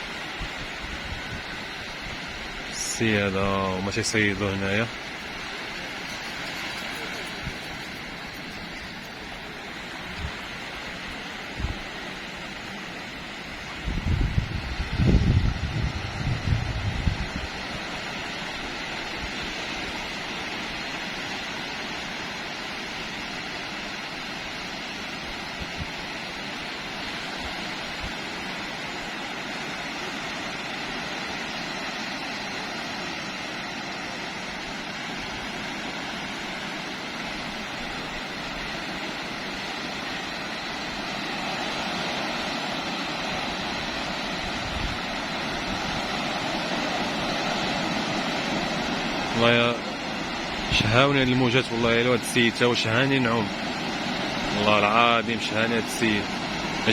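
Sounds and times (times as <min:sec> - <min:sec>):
sea surf breaking ashore: 0:00.0 - 0:56.9.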